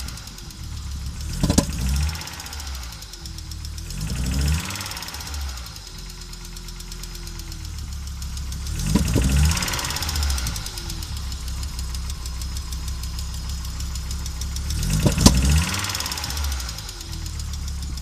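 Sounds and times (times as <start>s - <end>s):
engine running roughly: 0.0s - 18.0s
sharp engine crack: 0.0s - 18.0s.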